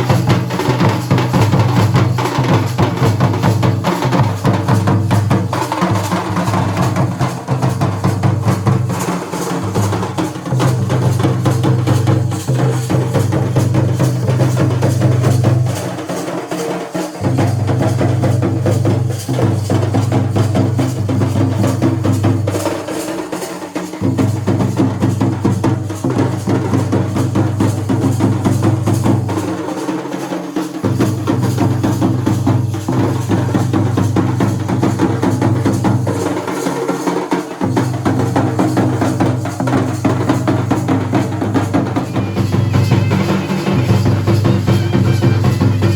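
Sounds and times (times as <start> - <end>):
drums in fast rolling strokes: 0.0 - 45.9.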